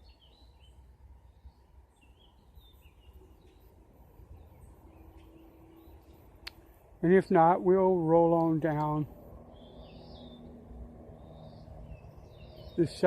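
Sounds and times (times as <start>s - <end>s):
faint birds chirping: 0.0s - 13.0s
low outdoor rumble: 0.0s - 13.0s.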